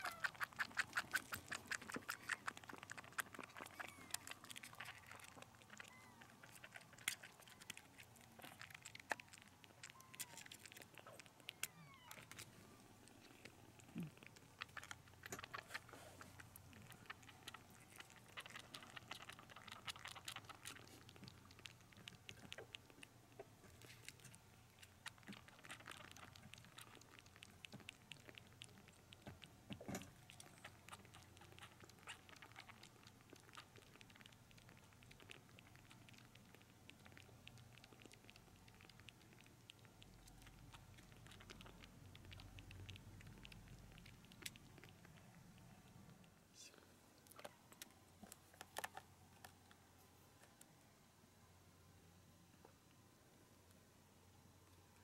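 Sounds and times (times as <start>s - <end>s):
kitten suckling wet clicks: 0.0s - 46.4s, 47.2s - 49.8s.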